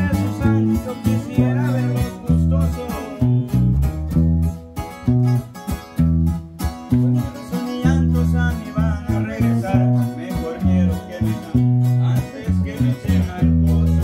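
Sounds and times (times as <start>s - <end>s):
bass notes: 0.0s - 14.0s
plucked lead guitar melody: 0.0s - 14.0s
strummed guitars: 0.0s - 14.0s.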